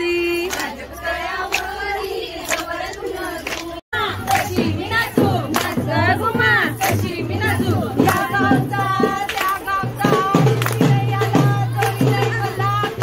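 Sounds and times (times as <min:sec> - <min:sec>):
women and girls singing: 0:00.0 - 0:13.0.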